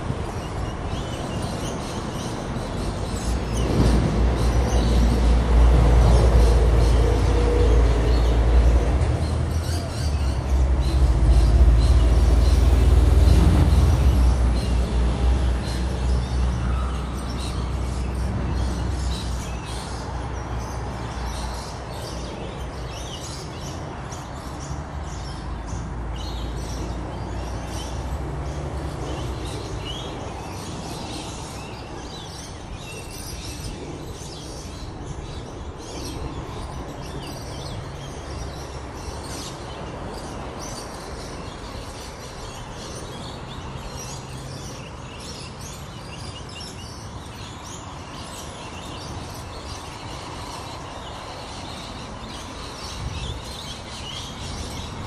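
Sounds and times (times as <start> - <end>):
birds chirping: 0.0 - 55.0
road traffic rumble: 0.0 - 55.0.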